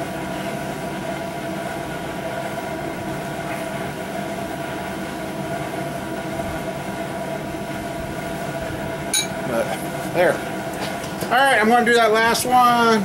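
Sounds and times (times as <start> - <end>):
mechanical hum with held tones: 0.0 - 13.0.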